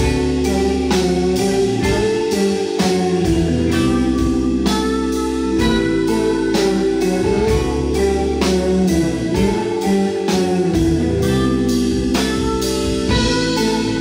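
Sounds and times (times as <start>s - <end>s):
drums: 0.0s - 14.0s
electric bass: 0.0s - 14.0s
electric guitar: 0.0s - 14.0s.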